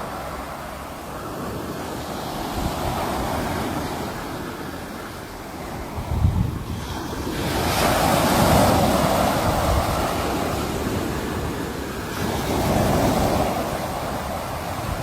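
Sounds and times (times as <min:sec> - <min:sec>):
waves breaking on shore: 0:00.0 - 0:15.0
wind on microphone: 0:00.0 - 0:15.0.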